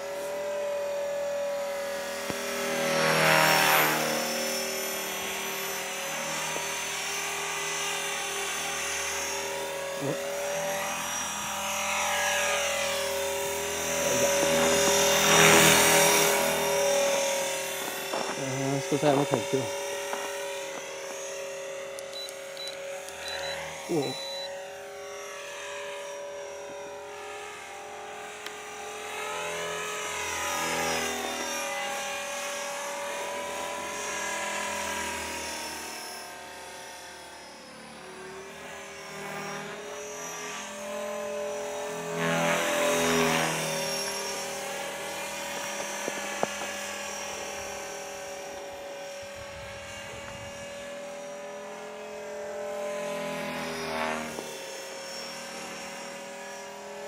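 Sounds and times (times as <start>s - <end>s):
helicopter motor whine: 0.0s - 57.0s
rotor blades buzzing: 0.0s - 57.0s.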